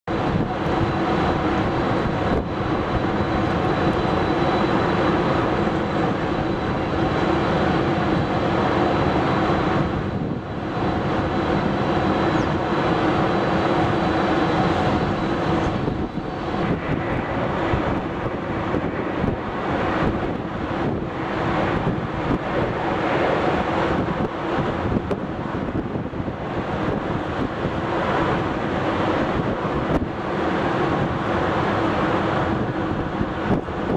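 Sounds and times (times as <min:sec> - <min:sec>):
jet engine high whine: 0:00.0 - 0:33.9
jet engines rumbling: 0:00.0 - 0:33.9.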